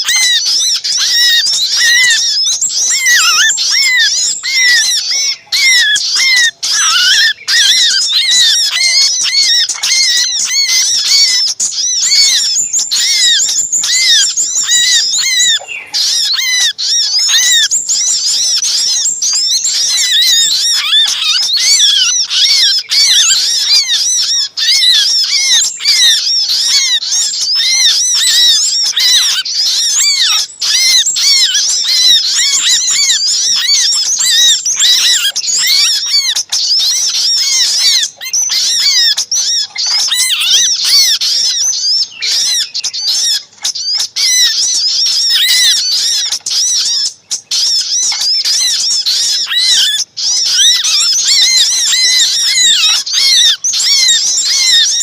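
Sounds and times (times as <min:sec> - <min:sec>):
bird alarm calls: 0:00.0 - 0:55.0
songbird flock chirping: 0:00.0 - 0:55.0
trapped bird calling: 0:00.0 - 0:55.0.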